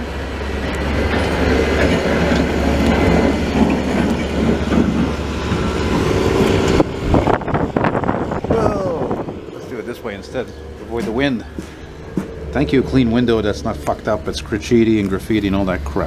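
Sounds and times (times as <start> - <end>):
diesel snow-clearing vehicle passing: 0.0 - 16.0.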